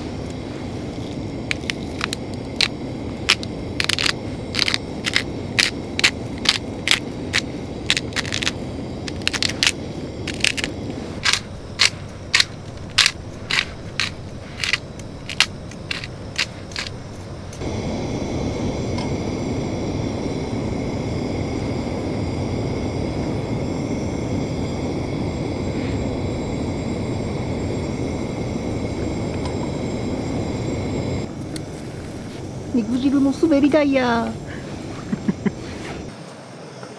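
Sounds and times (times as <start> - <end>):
spice grinder grinding: 0.0 - 32.6.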